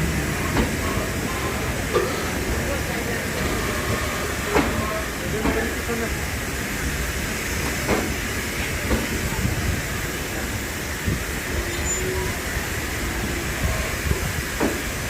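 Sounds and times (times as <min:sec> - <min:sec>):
train running on tracks: 0:00.0 - 0:15.0.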